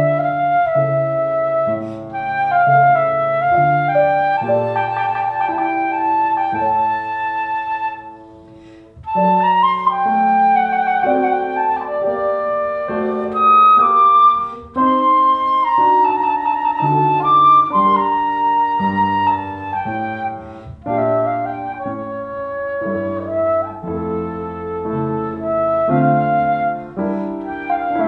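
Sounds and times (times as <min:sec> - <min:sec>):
flute playing slow melody: 0:00.0 - 0:28.0
lower accompaniment: 0:00.0 - 0:28.0.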